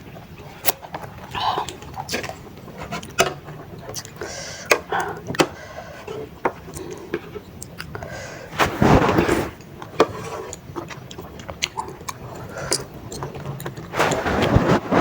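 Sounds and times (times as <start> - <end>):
wet chewing: 0.4 - 14.7.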